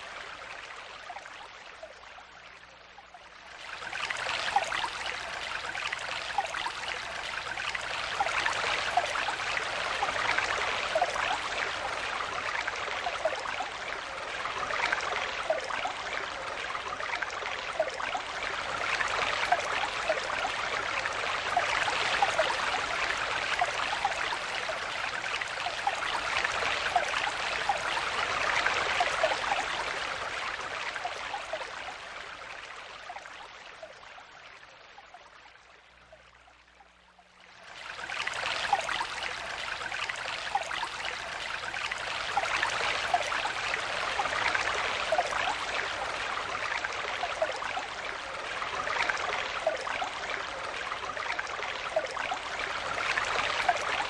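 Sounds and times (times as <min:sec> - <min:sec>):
stream babbling over stones: 0:03.6 - 0:34.3, 0:37.5 - 0:54.0.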